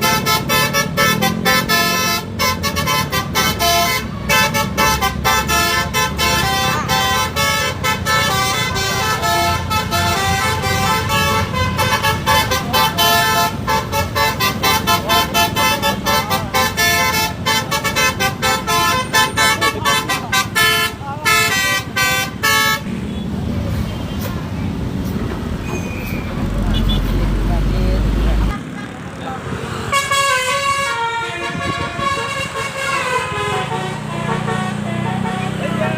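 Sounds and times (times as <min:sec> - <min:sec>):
multi-tone air horn melody: 0:00.0 - 0:22.9, 0:29.9 - 0:35.9.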